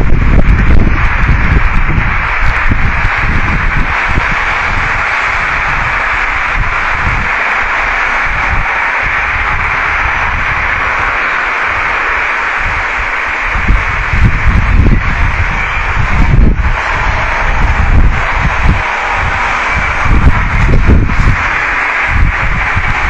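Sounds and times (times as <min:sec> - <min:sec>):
loud steady hiss: 0:00.0 - 0:23.0
low gusty rumbling: 0:00.0 - 0:23.0.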